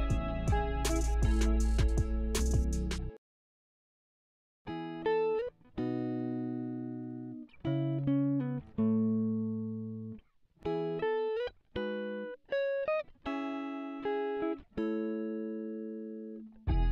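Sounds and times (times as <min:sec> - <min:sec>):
solo guitar playing: 0:00.0 - 0:03.2, 0:04.7 - 0:16.9.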